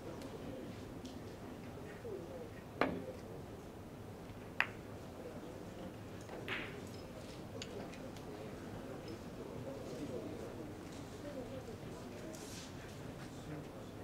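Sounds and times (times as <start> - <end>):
faint murmur of voices: 0.0 - 14.0.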